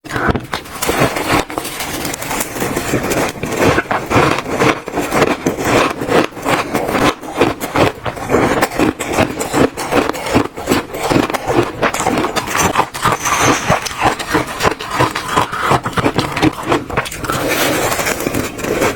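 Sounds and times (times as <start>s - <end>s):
shaved ice being chewed: 0.1s - 18.9s.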